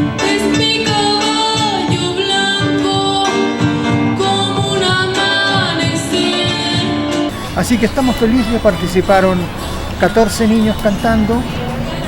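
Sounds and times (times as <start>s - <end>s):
guitar and band accompaniment: 0.0s - 12.0s.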